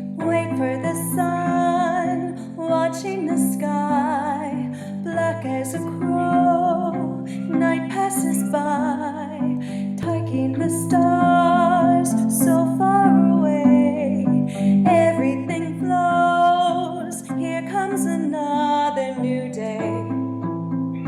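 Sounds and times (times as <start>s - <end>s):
plucked arpeggiated accompaniment: 0.0s - 21.0s
soprano singing: 0.0s - 21.0s.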